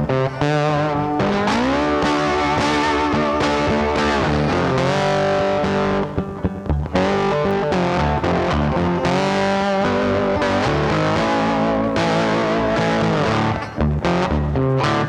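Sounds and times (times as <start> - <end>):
distorted electric guitar rock: 0.0 - 15.0.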